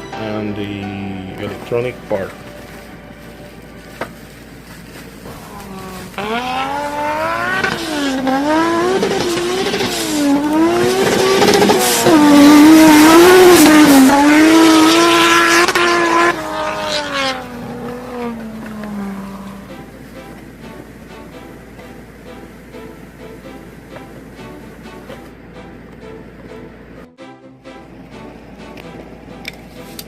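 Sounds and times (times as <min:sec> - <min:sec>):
car engine revving: 0:00.4 - 0:27.1.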